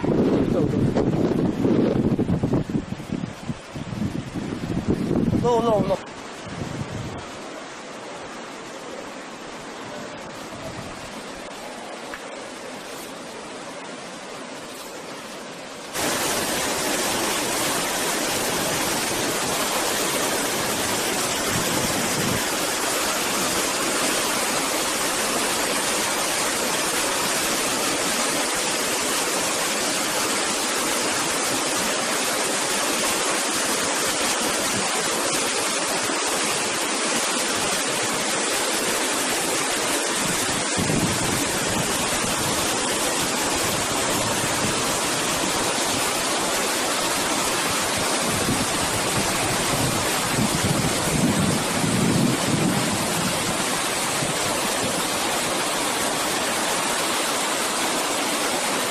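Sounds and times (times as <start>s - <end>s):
white water rushing through gorge: 0.0s - 58.9s.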